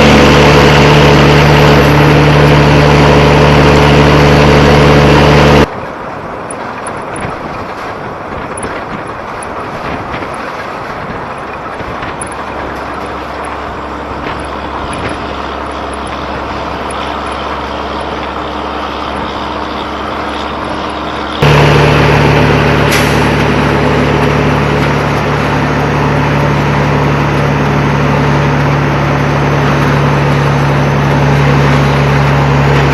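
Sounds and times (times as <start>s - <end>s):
vehicle running with rushing hiss: 0.0s - 32.9s.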